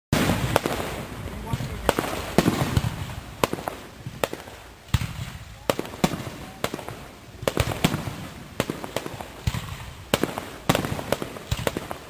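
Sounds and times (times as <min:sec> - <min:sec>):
fireworks bangs: 0:00.1 - 0:12.0
fireworks crackling: 0:00.1 - 0:12.0.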